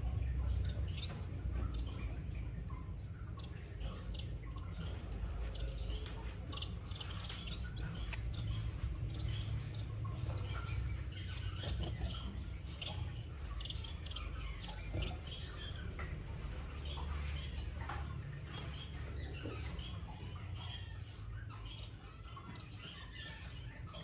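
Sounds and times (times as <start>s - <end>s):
low steady hum: 0.0s - 24.0s
nestlings chirping: 0.0s - 24.0s.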